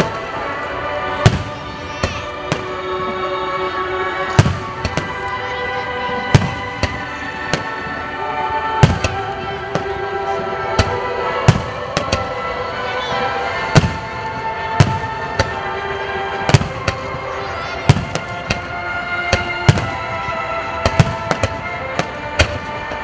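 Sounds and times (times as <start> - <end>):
firework bangs: 0.0 - 3.2, 4.2 - 8.1, 8.7 - 23.0
music with long held tones: 0.0 - 23.0.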